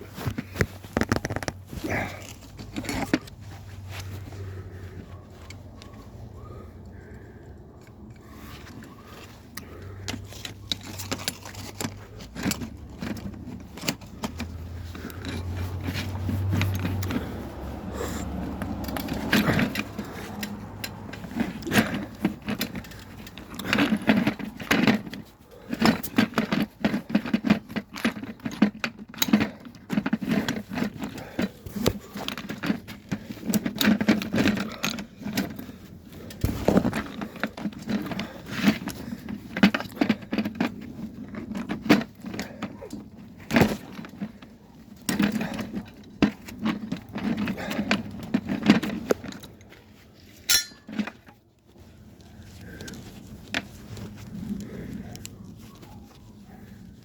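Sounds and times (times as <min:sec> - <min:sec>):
metallic clinks and scrapes: 0:00.0 - 0:57.0.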